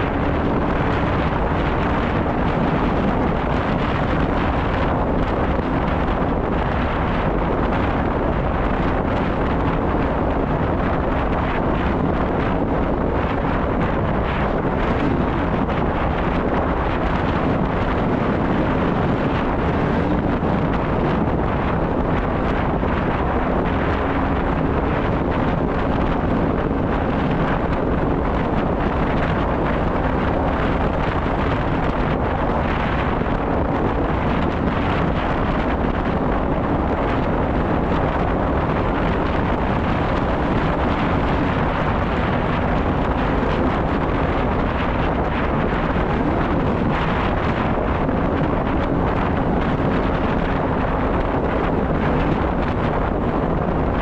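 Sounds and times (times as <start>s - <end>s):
snowmobile engine running: 0.0s - 54.0s
wind buffeting microphone: 0.0s - 54.0s.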